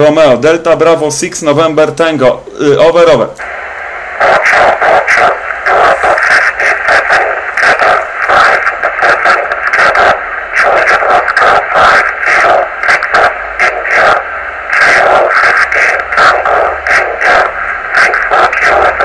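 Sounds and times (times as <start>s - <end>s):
distorted radio voice: 0.0s - 19.0s
receiver noise hiss: 0.0s - 19.0s.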